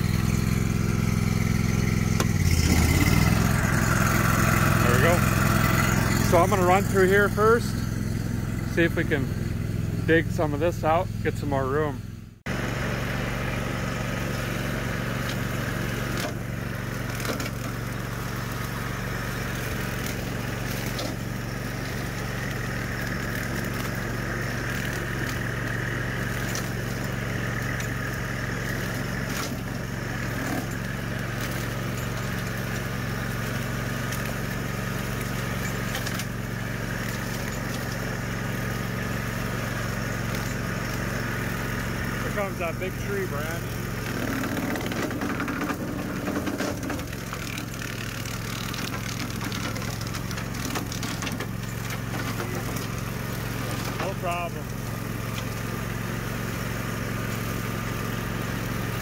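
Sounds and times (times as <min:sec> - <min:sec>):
mower engine under load: 0:00.0 - 0:59.0
tractor engine running: 0:00.0 - 0:59.0.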